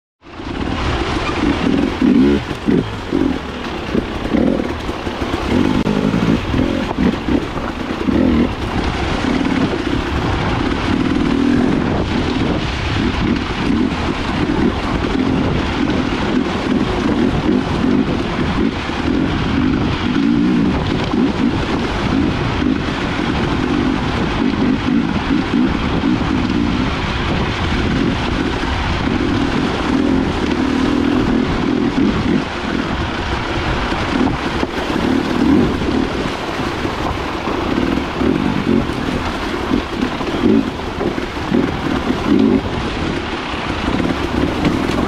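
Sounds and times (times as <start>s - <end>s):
motorcycle engine revving: 0.2s - 45.0s.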